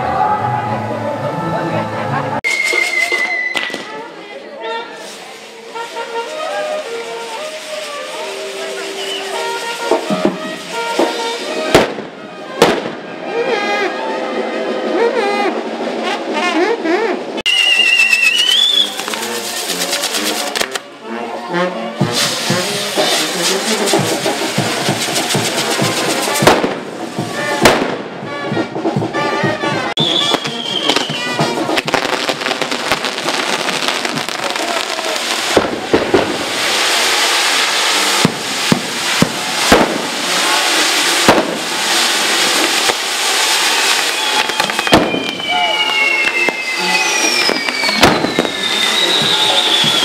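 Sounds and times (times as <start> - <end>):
music playing: 0.0 - 2.6, 5.4 - 44.9
fireworks cracking and banging: 2.4 - 21.0, 22.0 - 50.0.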